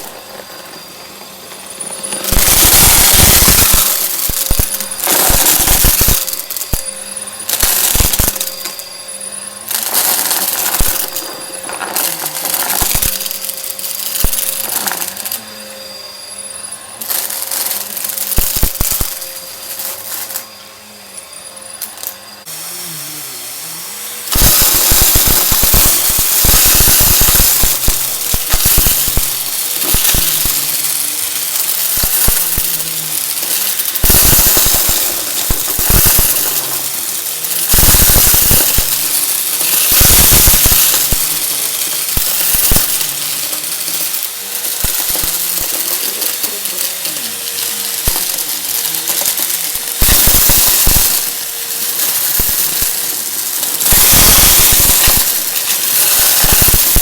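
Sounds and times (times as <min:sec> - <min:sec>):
vacuum cleaner motor hum: 0:00.0 - 0:57.0
debris crackling in vacuum: 0:02.1 - 0:09.0, 0:09.6 - 0:15.4, 0:17.0 - 0:20.5, 0:24.2 - 0:57.0.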